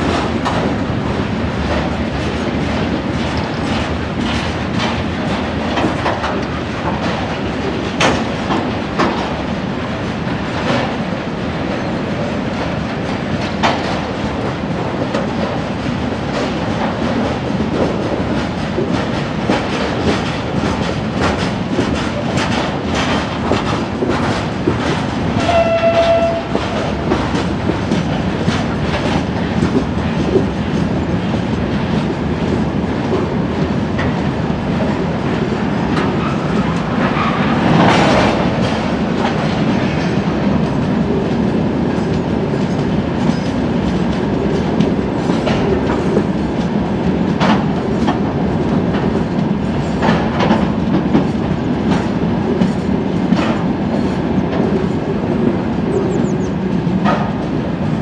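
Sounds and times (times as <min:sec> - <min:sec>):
freight train rumbling past: 0:00.0 - 0:58.0
wheels clicking over rail joints: 0:00.0 - 0:58.0.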